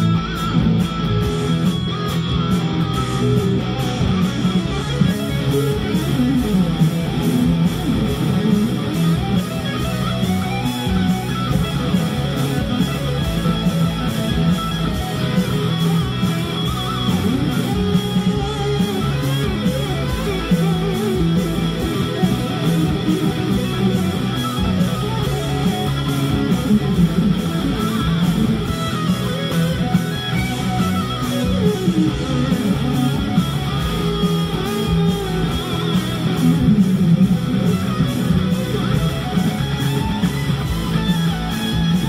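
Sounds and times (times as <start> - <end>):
electric guitar lead lines: 0.0 - 42.0
rock backing track: 0.0 - 42.0
steady bass line: 0.0 - 42.0.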